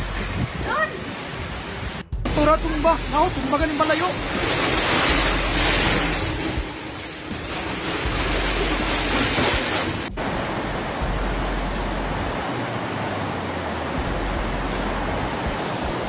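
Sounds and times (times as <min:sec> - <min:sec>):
storm wind and water rushing: 0:00.0 - 0:16.0.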